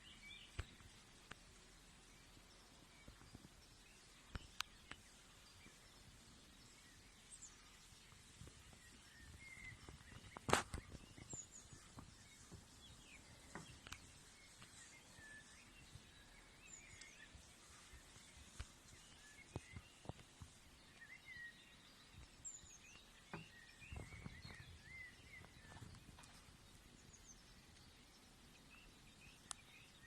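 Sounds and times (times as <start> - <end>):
faint high bird chirps: 2.0 - 30.0.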